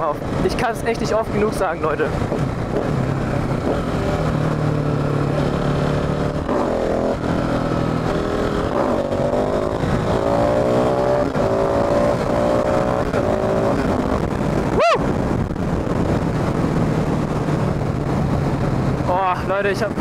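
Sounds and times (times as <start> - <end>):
wind noise: 0.0 - 20.0
motorcycle engine accelerating: 1.4 - 19.3.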